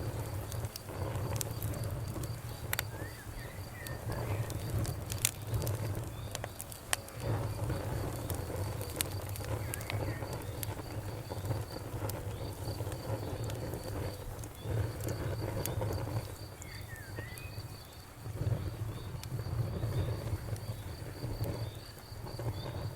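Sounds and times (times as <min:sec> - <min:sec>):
insect chirping: 0:00.0 - 0:22.9
wood fire crackling and popping: 0:00.0 - 0:22.9.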